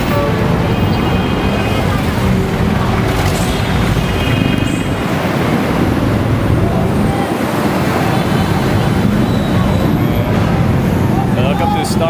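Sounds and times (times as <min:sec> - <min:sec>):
wind buffeting microphone: 0:00.0 - 0:11.4
road traffic: 0:00.0 - 0:12.0.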